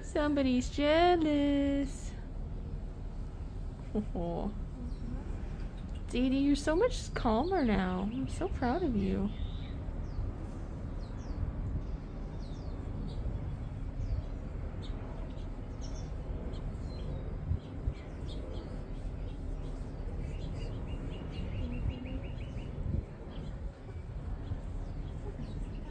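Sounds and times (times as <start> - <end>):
low background rumble: 0.0 - 25.9
small birds chirping: 4.2 - 25.9.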